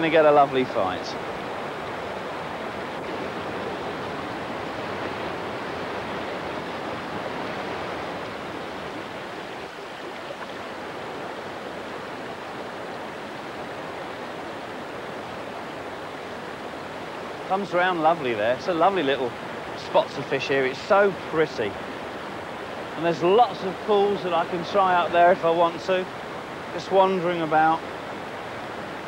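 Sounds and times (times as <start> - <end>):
river rushing through rapids: 0.0 - 29.0.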